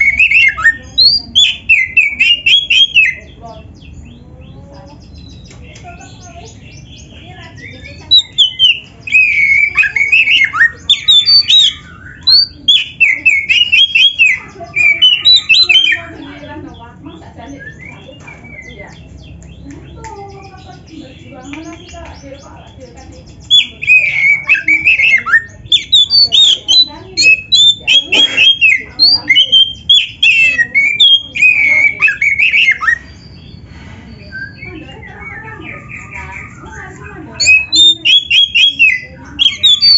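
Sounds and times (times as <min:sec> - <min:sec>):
bird singing whistled notes: 0:00.0 - 0:04.2, 0:05.0 - 0:16.4, 0:17.3 - 0:19.6, 0:20.2 - 0:39.9
harsh squawky bird notes: 0:00.0 - 0:39.9.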